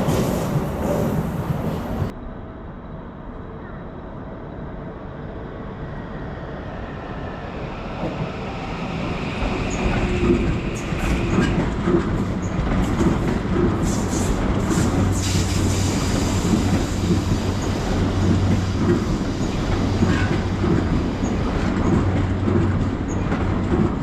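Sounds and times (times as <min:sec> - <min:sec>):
electric train running past: 0:00.0 - 0:24.0.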